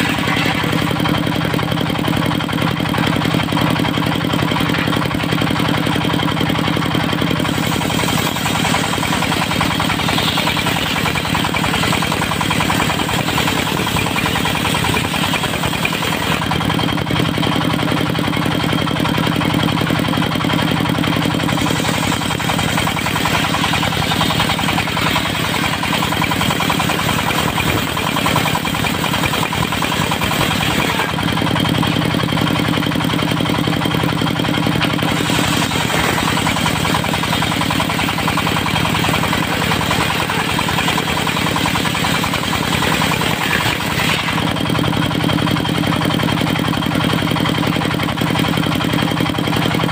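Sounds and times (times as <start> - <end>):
diesel engine driving sawmill: 0.0 - 49.9.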